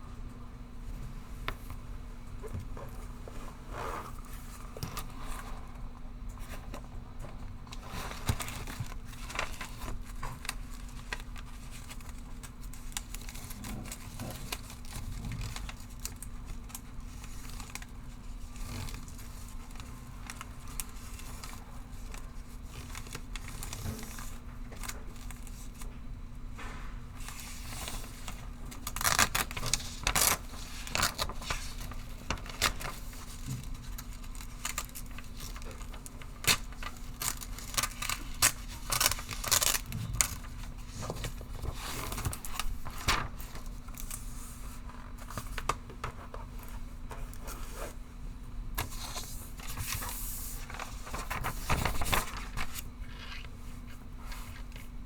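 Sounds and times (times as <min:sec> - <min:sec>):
low room hum: 0:00.0 - 0:55.0
paper rustling: 0:06.4 - 0:25.9, 0:26.6 - 0:48.1, 0:48.8 - 0:55.0.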